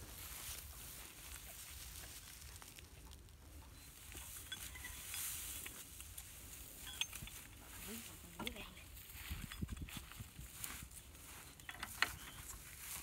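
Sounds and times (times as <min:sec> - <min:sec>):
hands digging dry soil: 0:00.0 - 0:13.0.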